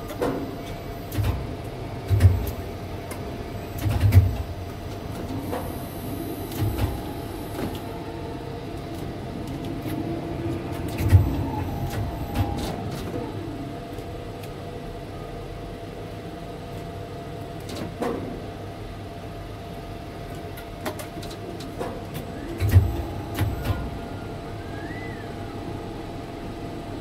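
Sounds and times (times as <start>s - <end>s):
machine hum with faint whine: 0.0s - 27.0s.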